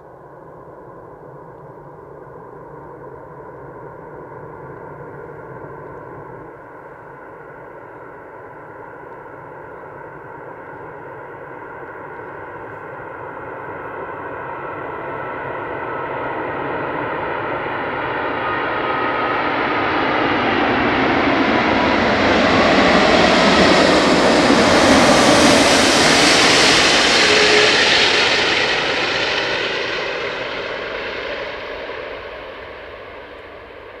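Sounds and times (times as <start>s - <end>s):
jet airliner passing: 0.0s - 34.0s.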